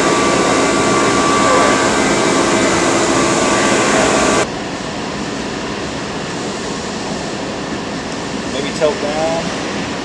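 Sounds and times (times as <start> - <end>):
machinery din with steady tones: 0.0 - 10.0.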